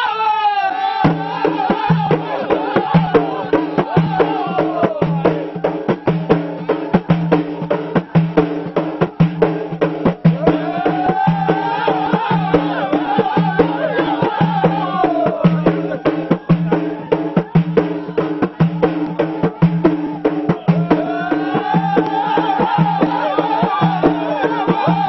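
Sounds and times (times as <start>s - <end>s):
men chanting together: 0.0s - 25.0s
sharp percussion strikes: 1.0s - 25.0s.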